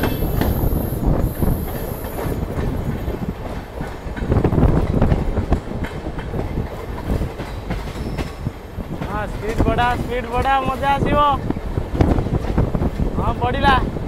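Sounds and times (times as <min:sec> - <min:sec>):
wheels clacking over rail joints: 0:00.0 - 0:13.2
train running rumble: 0:00.0 - 0:14.0.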